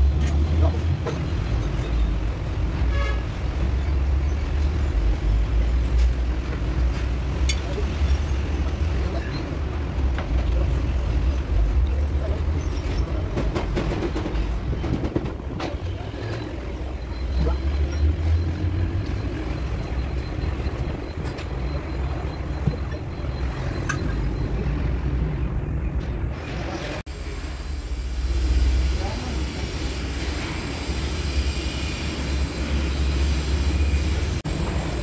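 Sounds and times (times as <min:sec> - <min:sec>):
diesel engine rumbling: 0:00.0 - 0:35.0.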